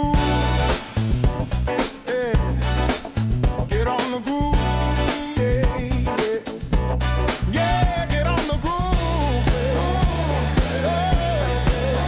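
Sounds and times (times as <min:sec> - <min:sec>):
funk instrumental groove: 0:00.0 - 0:12.0.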